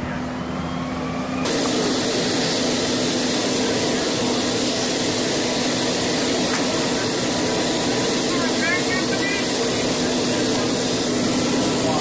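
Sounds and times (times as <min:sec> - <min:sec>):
turbine engine running: 0:00.0 - 0:12.0.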